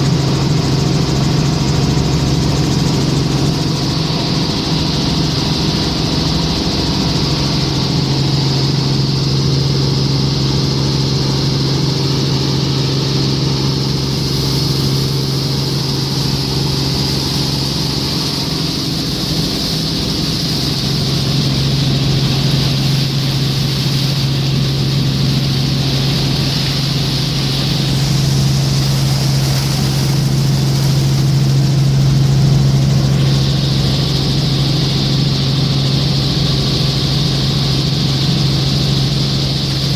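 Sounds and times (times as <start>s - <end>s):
helicopter engine and rotor drone: 0.0s - 39.9s
high whine: 2.2s - 39.9s.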